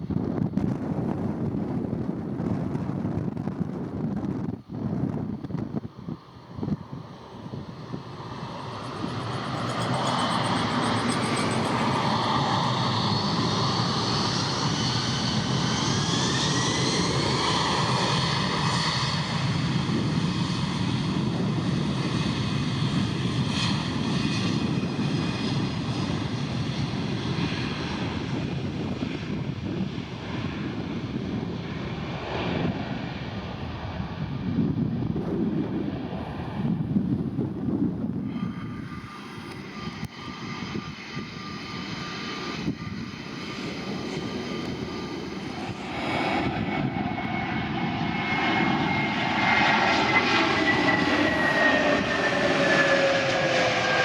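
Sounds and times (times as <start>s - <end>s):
aeroplane engines rushing: 0.0s - 54.0s.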